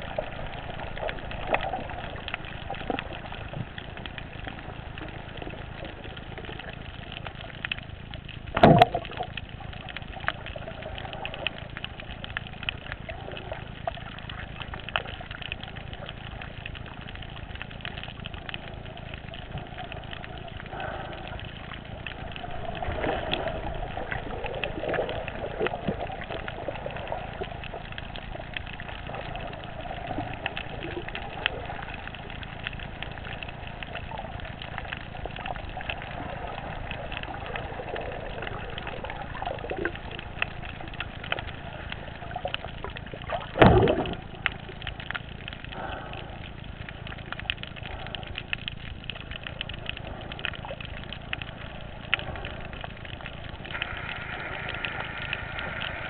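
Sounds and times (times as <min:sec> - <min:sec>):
faint clicks and crackles: 0:00.0 - 0:56.0
underwater low rumble: 0:00.0 - 0:56.0.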